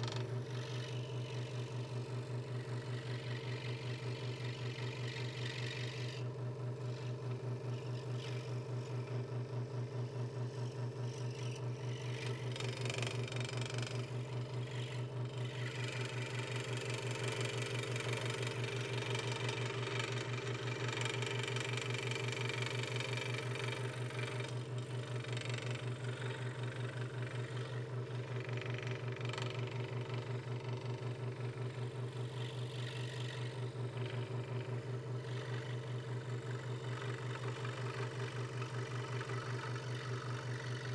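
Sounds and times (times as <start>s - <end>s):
scroll saw cutting wood: 0.0s - 9.1s, 10.5s - 40.9s.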